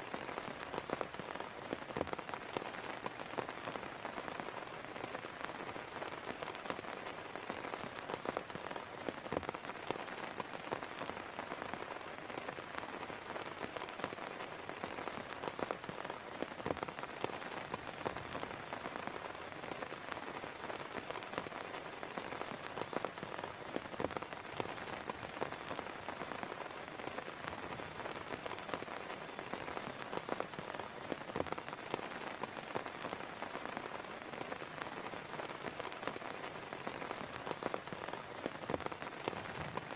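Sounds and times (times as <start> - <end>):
close raindrop hits: 0.0 - 39.9
heavy rain: 0.0 - 39.9.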